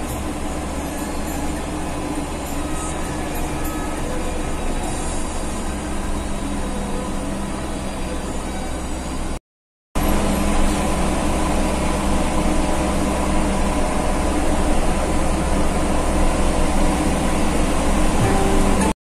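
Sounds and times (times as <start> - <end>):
bus engine hum: 0.0 - 9.4, 10.0 - 19.0
road noise: 0.0 - 9.4, 10.0 - 19.0.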